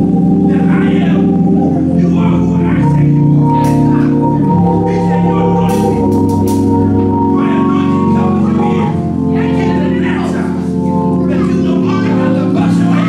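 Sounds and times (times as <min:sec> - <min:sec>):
church organ chords: 0:00.0 - 0:13.0
person praying: 0:00.0 - 0:13.0.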